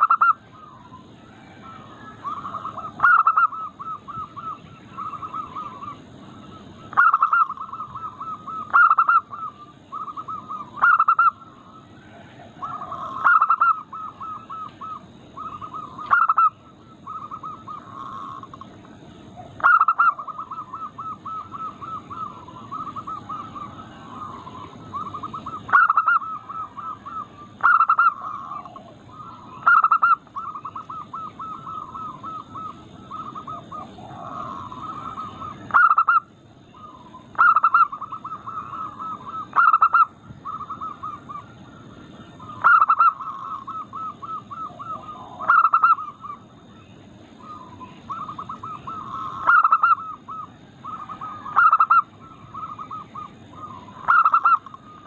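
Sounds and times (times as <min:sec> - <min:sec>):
doves cooing: 0:00.0 - 0:55.0
low background hiss: 0:00.0 - 0:55.0.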